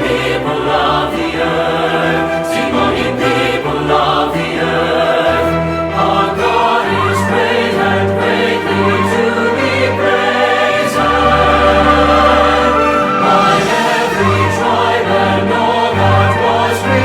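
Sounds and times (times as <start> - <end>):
choir singing a worship song: 0.0 - 17.0
instrumental accompaniment: 0.0 - 17.0.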